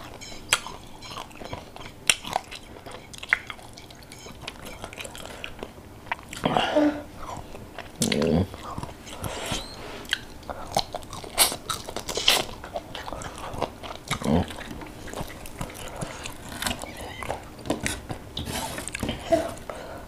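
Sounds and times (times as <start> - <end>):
mouth clicks and smacks: 0.0 - 6.6, 7.2 - 18.2
chewing and crunching: 0.0 - 19.7.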